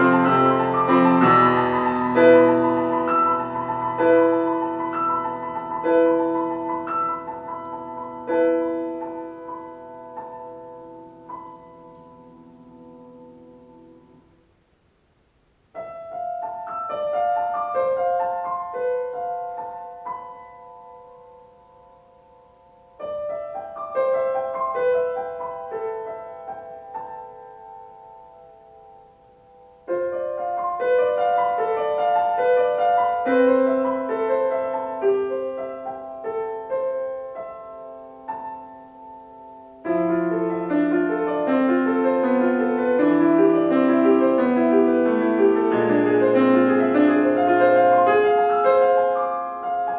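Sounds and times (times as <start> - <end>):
solo acoustic piano: 0.0 - 49.9.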